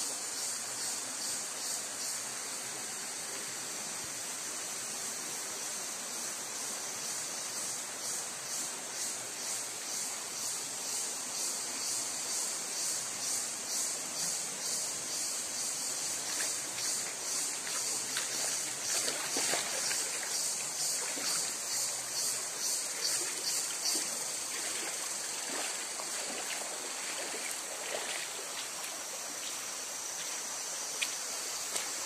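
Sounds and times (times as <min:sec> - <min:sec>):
high insect buzz: 0:00.0 - 0:32.0
stream running over rock: 0:00.0 - 0:32.0.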